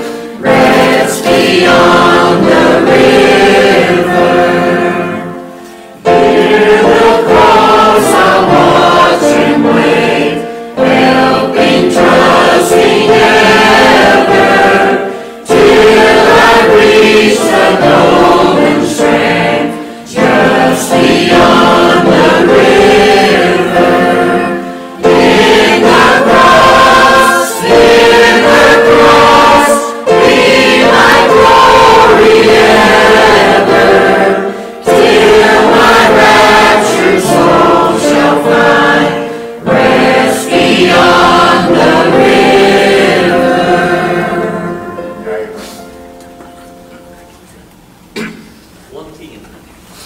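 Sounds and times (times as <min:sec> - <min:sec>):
choir singing a hymn: 0:00.0 - 0:47.1.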